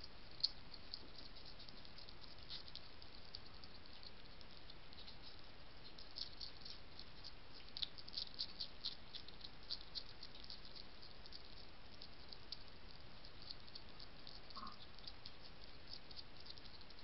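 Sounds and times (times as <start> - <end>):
faint steady hiss: 0.0 - 17.0
hedgehog eating crunches: 0.0 - 17.0.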